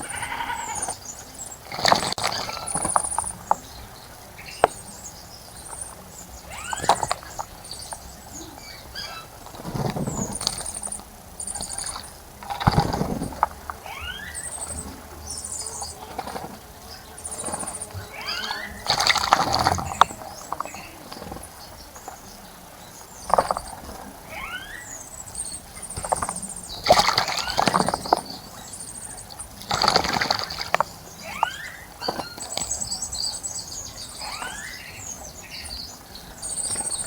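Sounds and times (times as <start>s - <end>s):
birds chirping: 0.0s - 37.0s
birds splashing in water: 0.0s - 37.0s
high buzzy bird trills: 0.0s - 37.0s.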